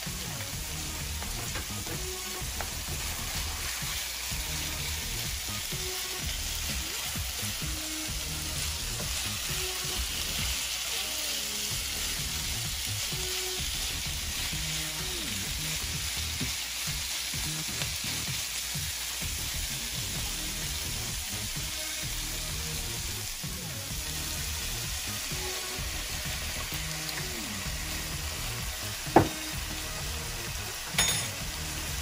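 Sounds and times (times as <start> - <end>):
meat and vegetables sizzling in pan: 0.0 - 32.0
utensil stirring in pan: 0.0 - 32.0.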